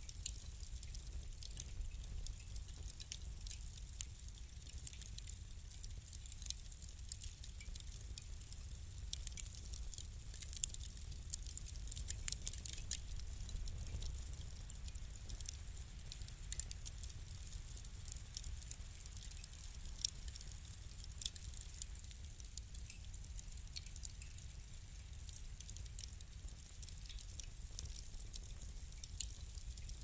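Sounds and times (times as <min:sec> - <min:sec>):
low fire rumble: 0:00.0 - 0:30.0
wood fire crackling: 0:00.0 - 0:30.0.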